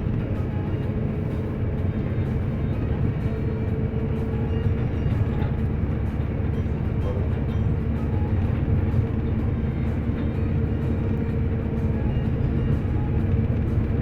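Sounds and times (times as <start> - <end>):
moving vehicle rumble: 0.0 - 14.0.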